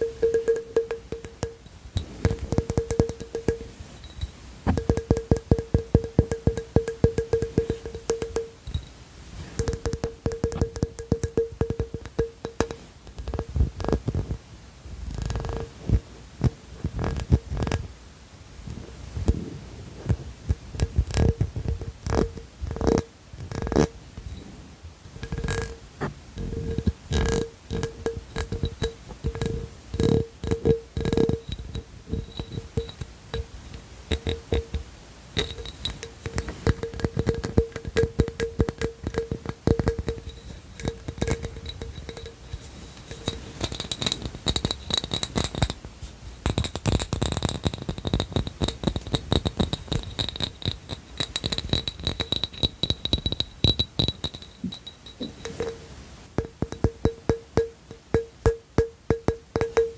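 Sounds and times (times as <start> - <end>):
fast tapping on hard objects: 0.0 - 3.7, 4.6 - 8.9, 9.6 - 14.4, 15.1 - 17.8, 20.0 - 23.9, 25.2 - 55.7, 56.4 - 59.9.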